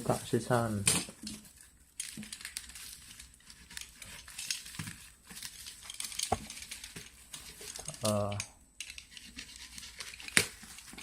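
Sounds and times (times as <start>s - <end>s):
plastic and cardboard crinkling: 0.0s - 11.0s.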